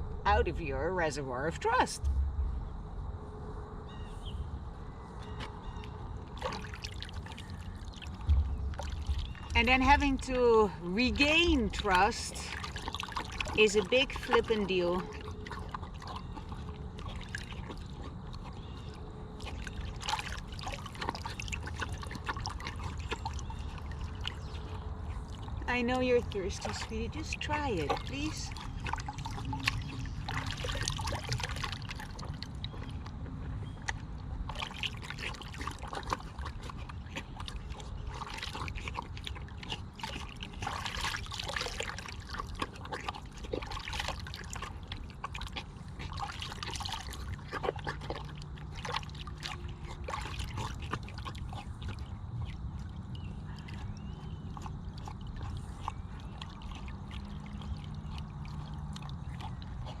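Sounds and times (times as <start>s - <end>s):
water trickling and sloshing: 0.0s - 60.0s
pet lapping water: 5.2s - 60.0s.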